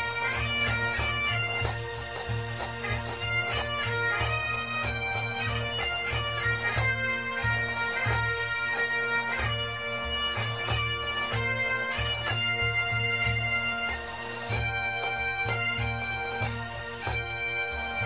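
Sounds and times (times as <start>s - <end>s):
bagpipe music: 0.0s - 18.0s
low rhythmic pulse: 0.0s - 18.0s.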